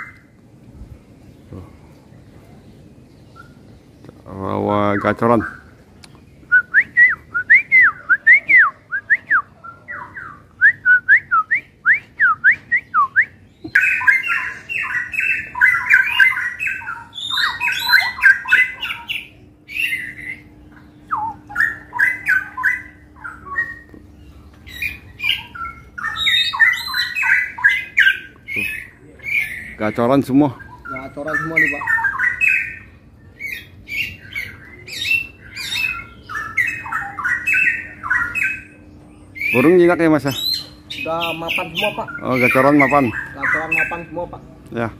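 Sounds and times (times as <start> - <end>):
bulbuls singing: 0.0 - 44.9.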